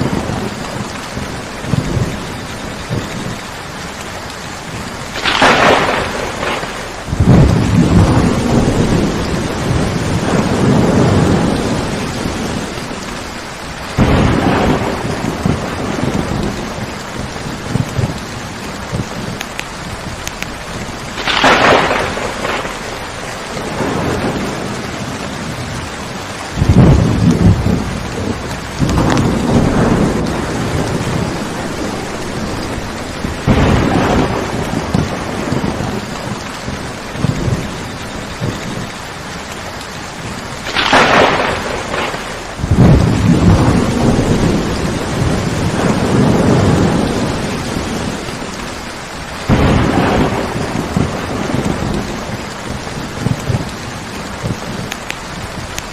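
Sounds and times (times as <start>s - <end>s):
steady rain: 0.0s - 55.9s
thunder cracks and rumbles: 0.0s - 55.9s.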